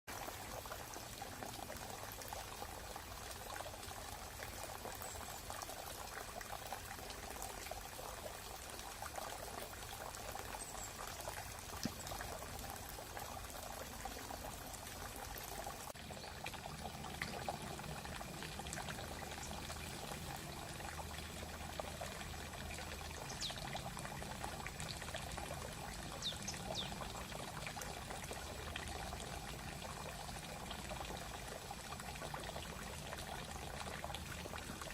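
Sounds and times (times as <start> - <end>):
stream babbling over stones: 0.1 - 34.9.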